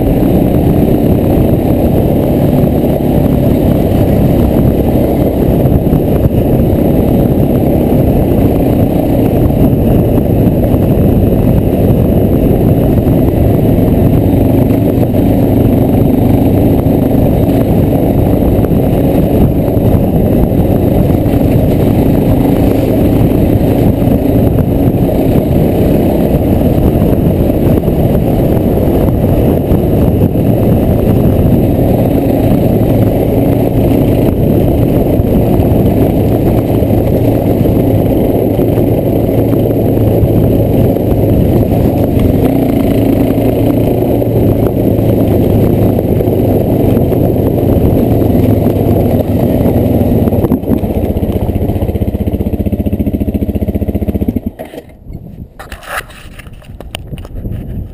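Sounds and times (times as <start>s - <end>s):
quad bike engine running: 0.0s - 57.9s.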